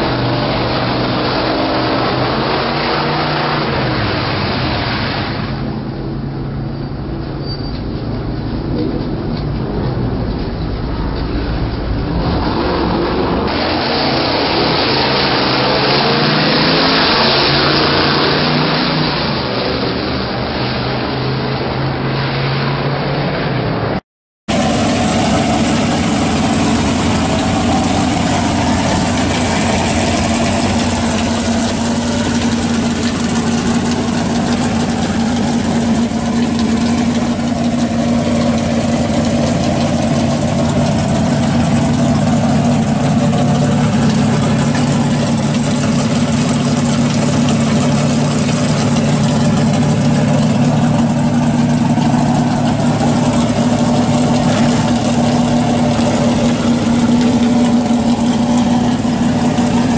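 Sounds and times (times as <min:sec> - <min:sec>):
car engine idling: 0:00.0 - 0:16.9, 0:24.5 - 0:59.9
car engine at full throttle: 0:00.0 - 0:59.9.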